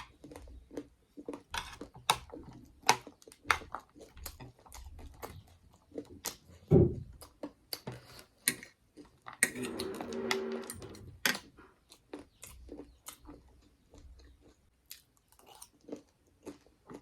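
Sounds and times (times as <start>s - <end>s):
chewing food close up: 0.0s - 10.6s, 11.2s - 17.0s.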